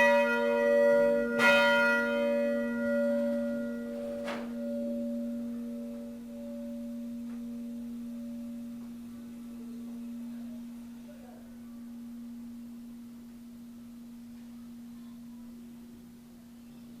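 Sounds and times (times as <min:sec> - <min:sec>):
church bell humming tone: 0:00.0 - 0:17.0.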